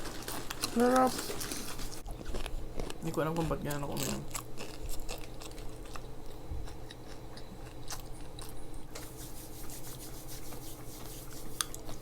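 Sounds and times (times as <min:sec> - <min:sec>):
people chewing food: 0:00.0 - 0:12.0.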